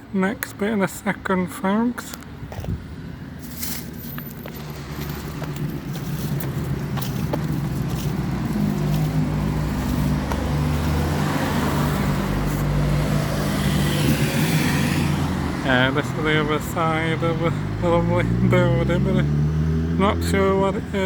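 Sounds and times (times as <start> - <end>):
street traffic noise: 0.0 - 21.0
vehicle engine running close: 2.1 - 21.0.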